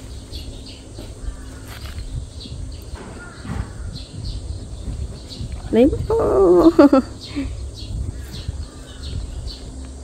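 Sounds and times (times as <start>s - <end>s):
faint steady hum: 0.0s - 10.0s
low rumble: 0.0s - 10.0s
sparrows chirping: 0.0s - 10.0s.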